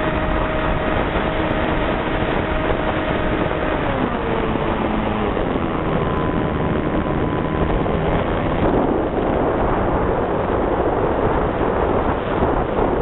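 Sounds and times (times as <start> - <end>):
model airplane motor and propeller: 0.0 - 13.0
wind rushing over microphone: 0.0 - 13.0.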